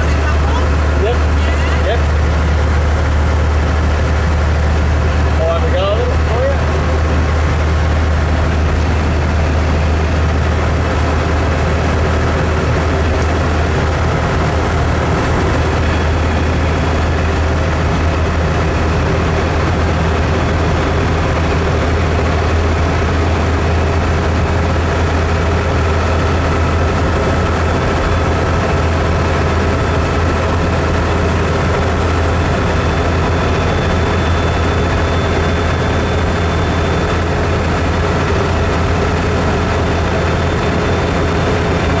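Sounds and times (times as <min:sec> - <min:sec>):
vehicle engine and road drone: 0:00.0 - 0:42.0.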